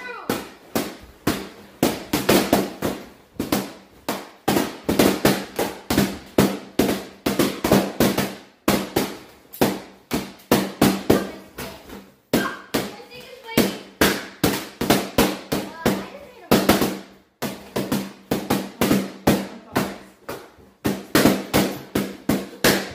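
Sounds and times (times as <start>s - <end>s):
balloons popping: 0.0s - 22.9s.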